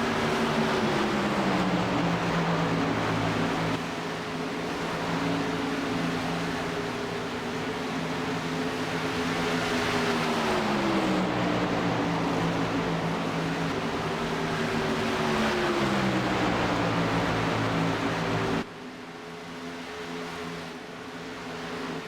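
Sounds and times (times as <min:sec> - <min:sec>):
steady rushing noise: 0:00.0 - 0:18.7
truck engines running hard: 0:00.0 - 0:18.7.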